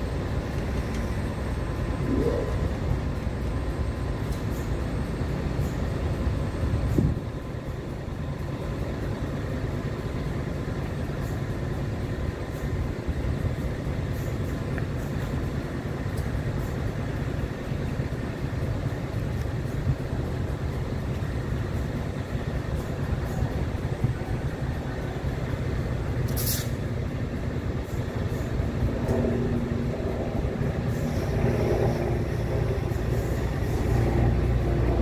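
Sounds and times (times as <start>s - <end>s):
diesel locomotive idling: 0.0s - 35.0s.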